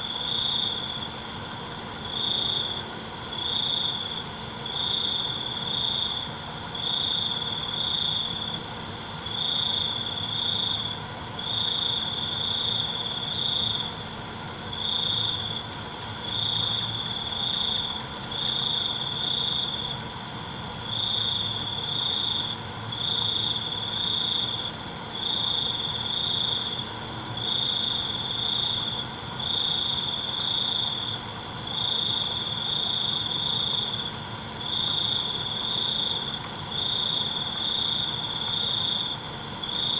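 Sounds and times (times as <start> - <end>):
crickets chirping trill: 0.0 - 39.9
high-pitched insect hiss: 0.0 - 39.9.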